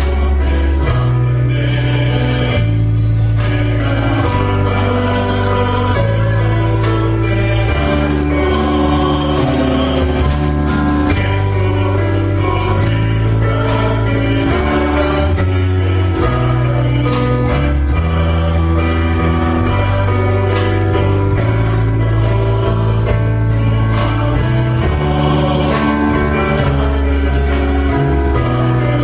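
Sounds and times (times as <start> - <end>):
instrumental accompaniment with beat: 0.0 - 29.0
voices singing together: 0.0 - 29.0.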